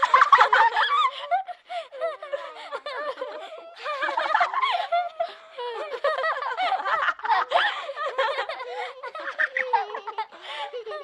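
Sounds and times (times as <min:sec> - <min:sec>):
children laughing and giggling: 0:00.0 - 0:11.0.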